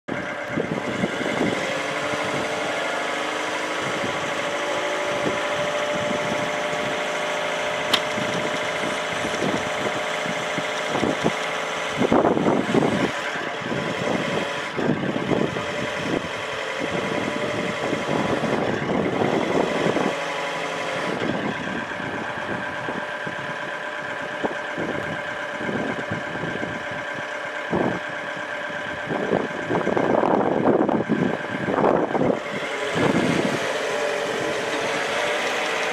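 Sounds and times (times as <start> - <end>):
forklift engine and hydraulics whining: 0.1 - 35.9.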